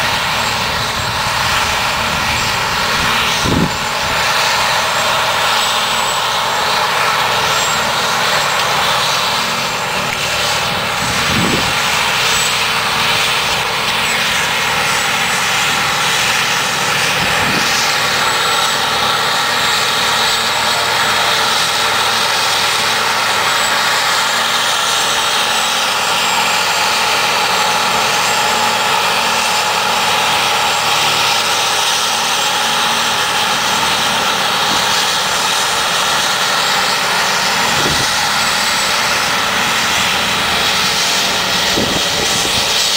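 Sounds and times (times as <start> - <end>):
forage harvester drone and whine: 0.0 - 42.9.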